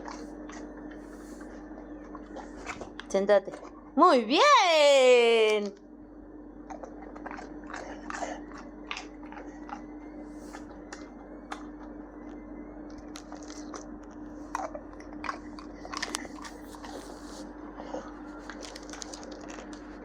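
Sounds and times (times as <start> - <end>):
dog crunching dry biscuit: 0.0 - 3.8, 6.7 - 17.4, 18.1 - 20.0.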